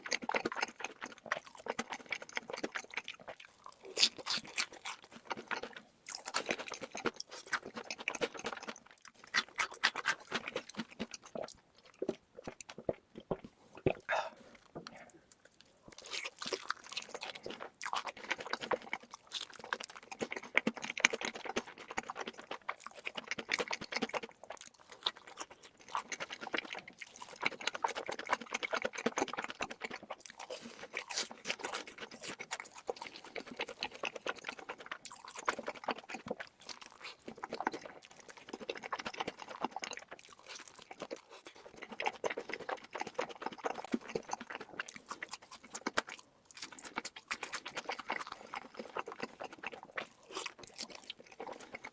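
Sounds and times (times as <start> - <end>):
chewing and crunching food: 0.0 - 51.9.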